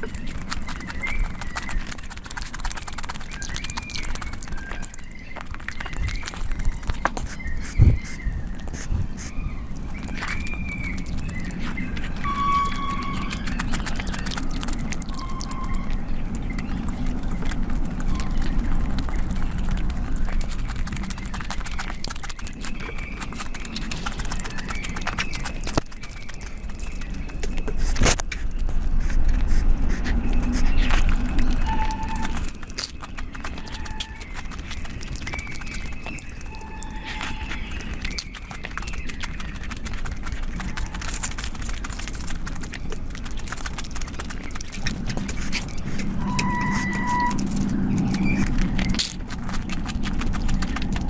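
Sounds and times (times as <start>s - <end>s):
food squishing in hand: 0.0s - 51.0s
wet mouth clicks and smacks: 0.0s - 51.0s.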